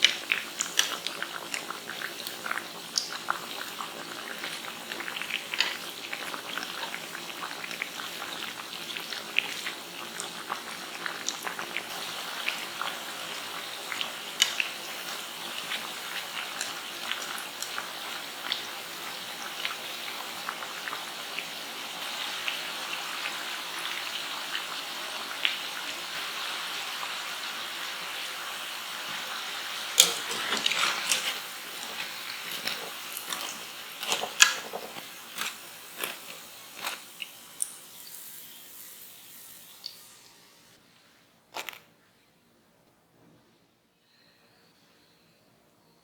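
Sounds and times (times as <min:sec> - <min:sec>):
food sizzling in hot oil: 0:00.0 - 0:40.8.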